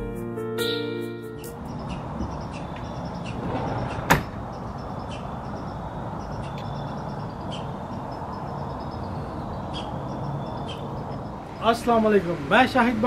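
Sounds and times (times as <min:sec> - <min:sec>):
small birds chirping: 0:01.4 - 0:12.9.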